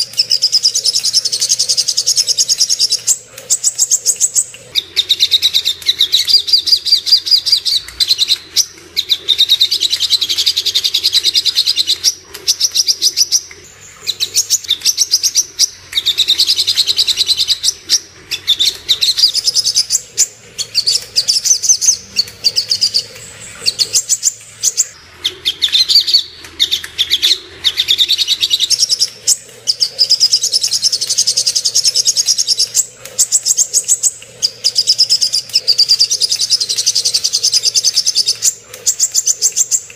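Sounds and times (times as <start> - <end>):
bird singing high-pitched trills: 0.0 - 39.9.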